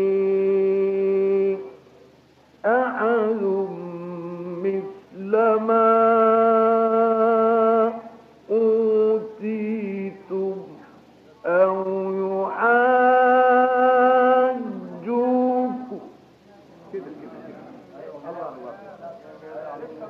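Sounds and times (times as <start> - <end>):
man chanting recitation: 0.0 - 1.8, 2.6 - 16.2, 16.9 - 20.0.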